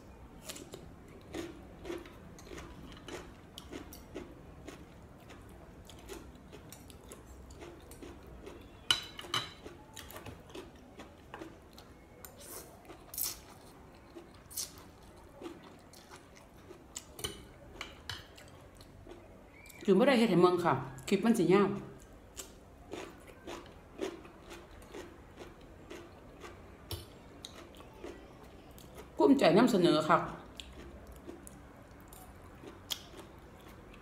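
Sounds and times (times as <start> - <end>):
chewing and crunching salad: 0.3 - 19.8, 21.7 - 34.0.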